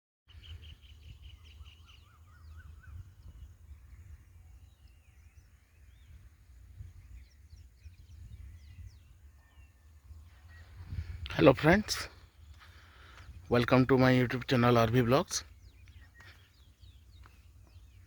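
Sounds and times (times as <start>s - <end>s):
birds chirping: 0.3s - 18.0s.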